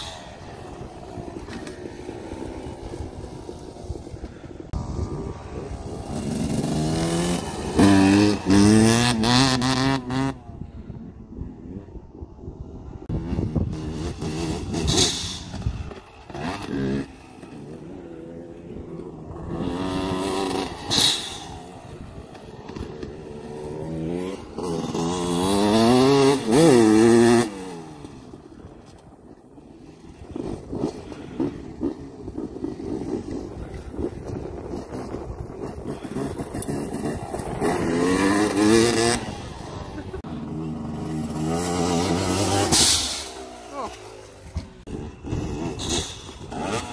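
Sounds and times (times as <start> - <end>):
dirt bikes revving past: 0.0 - 46.9.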